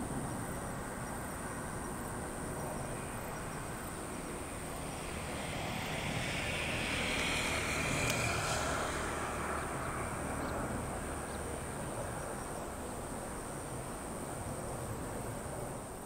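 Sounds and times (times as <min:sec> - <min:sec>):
jet engines rushing: 0:02.0 - 0:15.7.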